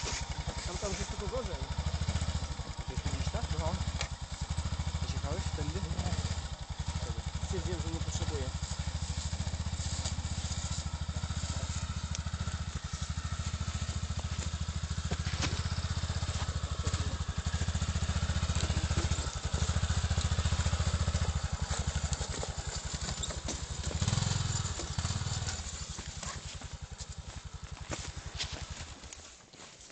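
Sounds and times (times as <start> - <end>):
quad bike engine under load: 0.0 - 29.4.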